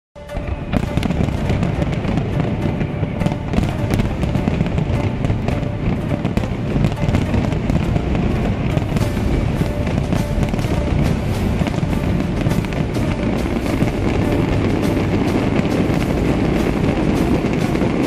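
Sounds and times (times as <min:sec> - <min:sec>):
deep rumble: 0:00.2 - 0:18.0
fireworks crackling and popping: 0:00.2 - 0:18.0
music: 0:00.2 - 0:18.0.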